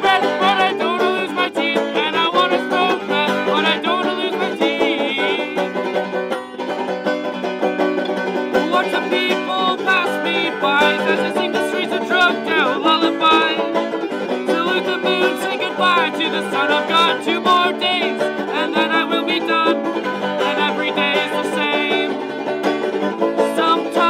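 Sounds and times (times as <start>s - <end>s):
banjo picking: 0.0s - 24.0s.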